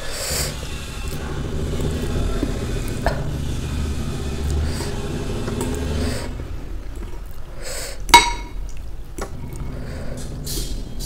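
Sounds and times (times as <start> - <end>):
low rumble: 0.0 - 7.6, 9.1 - 11.0
eating noodles: 0.0 - 11.0.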